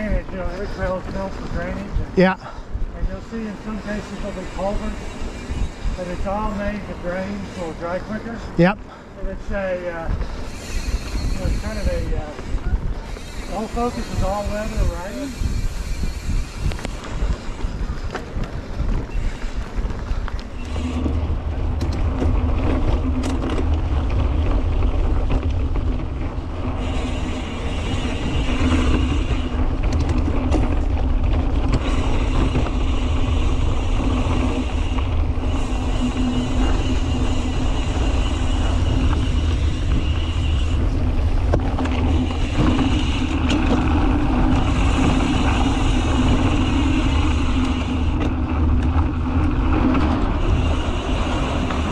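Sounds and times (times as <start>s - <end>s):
bike tyres rolling on dirt: 0.0s - 51.9s
wind buffeting microphone: 0.0s - 51.9s.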